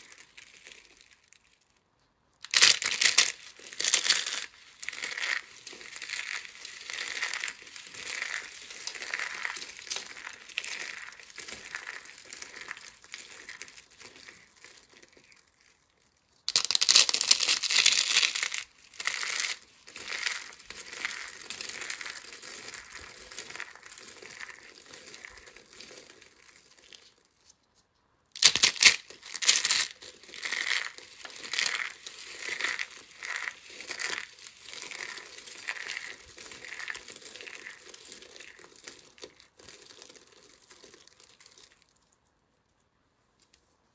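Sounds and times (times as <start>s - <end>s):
soap shavings crunching: 0.0s - 1.7s, 2.4s - 27.4s, 28.4s - 42.0s.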